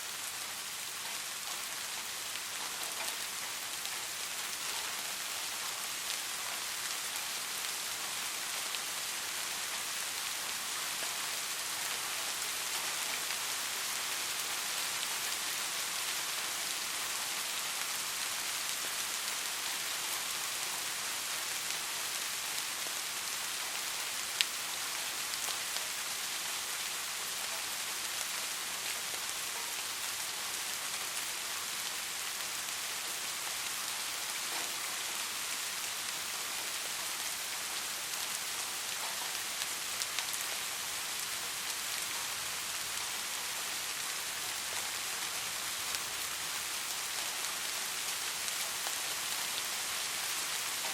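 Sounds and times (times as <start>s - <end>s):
soft rain hiss: 0.0s - 50.9s.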